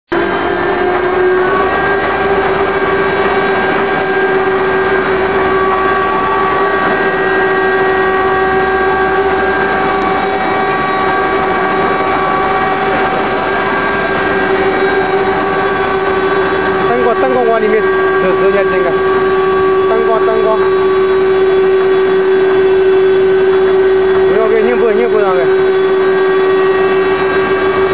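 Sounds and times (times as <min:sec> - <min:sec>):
spindle motors whining: 0:00.1 - 0:27.9.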